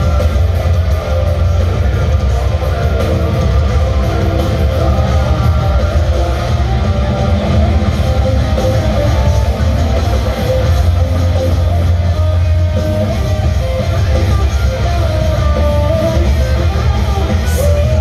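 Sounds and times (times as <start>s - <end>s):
heavy metal band playing live: 0.0s - 18.0s.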